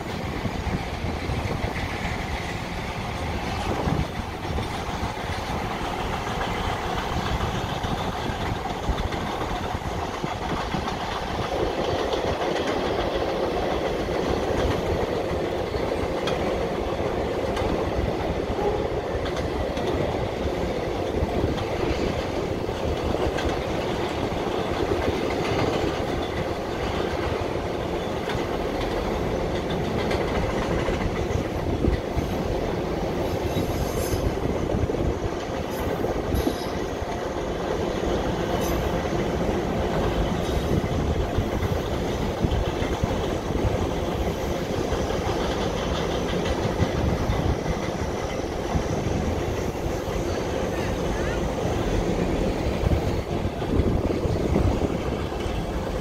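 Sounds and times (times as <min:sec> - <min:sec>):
freight train rumbling over bridge: 0:00.0 - 0:56.0.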